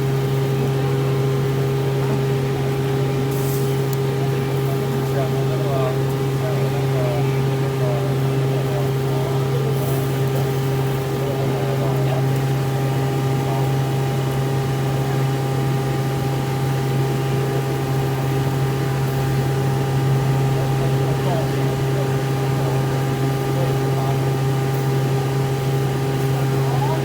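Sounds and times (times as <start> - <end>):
machine humming: 0.0 - 27.0
murmur of distant voices: 0.0 - 27.0.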